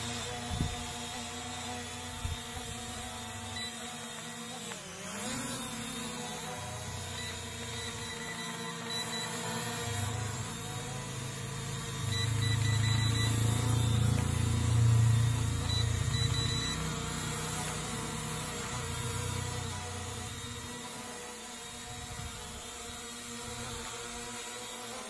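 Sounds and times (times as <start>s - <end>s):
drone propellers whirring: 0.0s - 25.0s.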